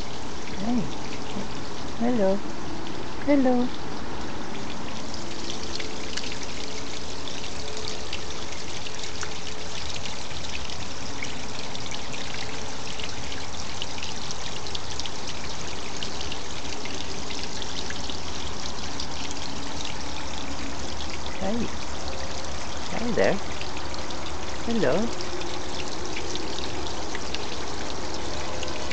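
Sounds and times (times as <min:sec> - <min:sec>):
waterfall over rocks: 0:00.0 - 0:03.7, 0:04.4 - 0:28.9.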